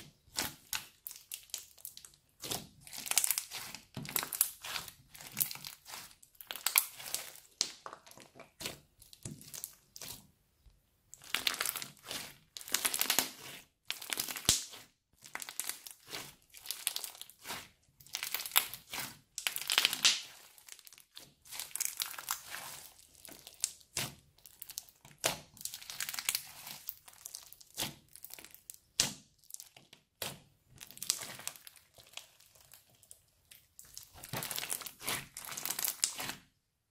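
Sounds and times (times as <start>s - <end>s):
crunchy slime crackling: 0.0s - 10.2s, 11.1s - 36.6s.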